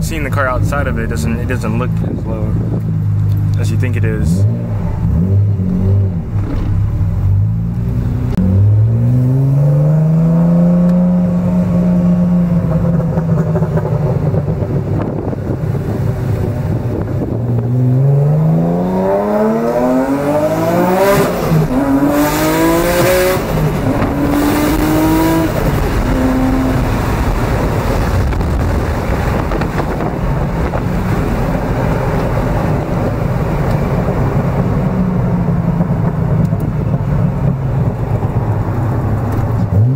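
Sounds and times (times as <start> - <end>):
car engine revving through gears: 0.3 - 39.9.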